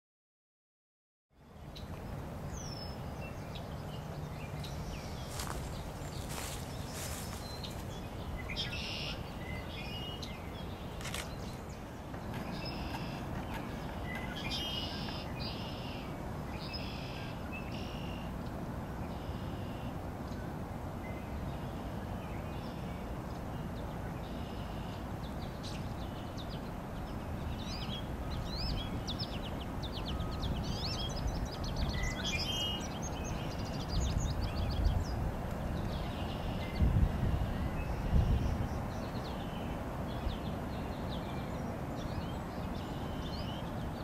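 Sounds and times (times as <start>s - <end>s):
songbirds calling: 1.4s - 44.0s.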